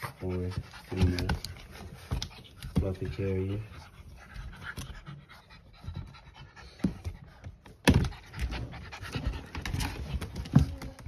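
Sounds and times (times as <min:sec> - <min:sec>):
dog panting: 0:00.0 - 0:10.7.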